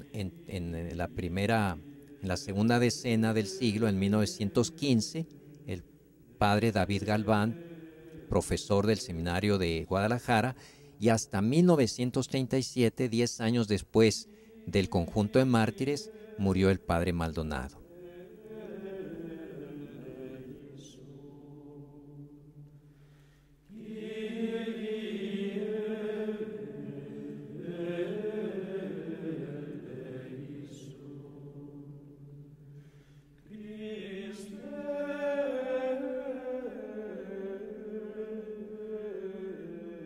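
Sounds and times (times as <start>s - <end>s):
slow chanted singing: 0.0s - 40.0s.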